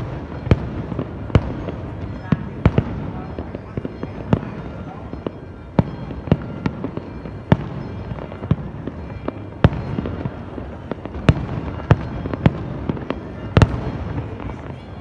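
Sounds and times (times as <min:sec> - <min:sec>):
fireworks bangs: 0:00.0 - 0:15.0
rumble of fireworks blasts: 0:00.0 - 0:15.0.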